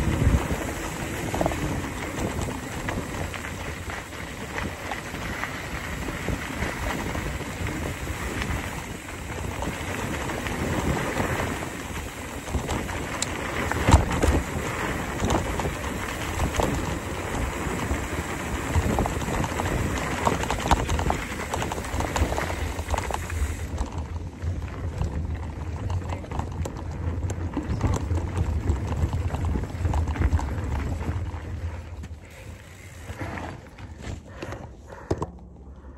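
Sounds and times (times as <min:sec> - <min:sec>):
bike tyres rolling on dirt: 0:00.0 - 0:35.9
wind buffeting microphone: 0:00.0 - 0:35.9.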